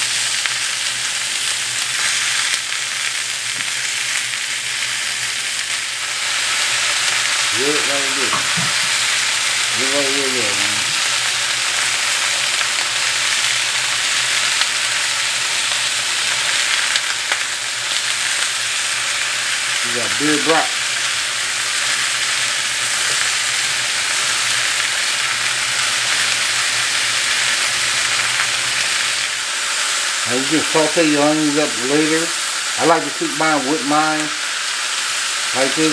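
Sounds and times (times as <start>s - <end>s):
sausages and onions sizzling: 0.0s - 35.9s
tongs stirring in a skillet: 5.5s - 35.9s.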